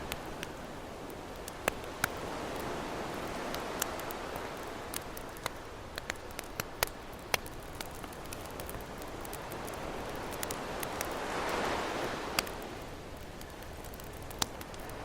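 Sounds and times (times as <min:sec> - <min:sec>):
ocean waves: 0:00.0 - 0:07.0, 0:07.8 - 0:15.0
campfire crackling: 0:00.0 - 0:15.0.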